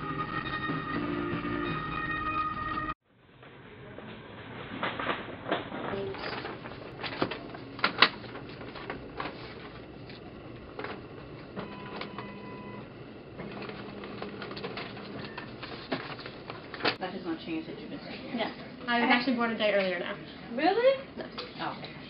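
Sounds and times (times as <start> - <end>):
machine hum: 0.0 - 21.3.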